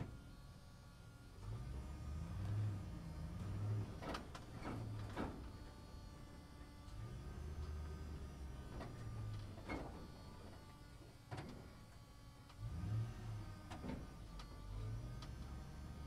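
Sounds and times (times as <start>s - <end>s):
bus drivetrain drone: 0.0s - 16.0s.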